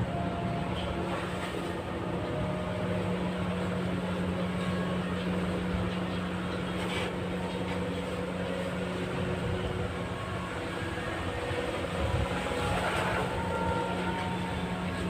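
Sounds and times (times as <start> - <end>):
motor running drone: 0.0 - 15.0.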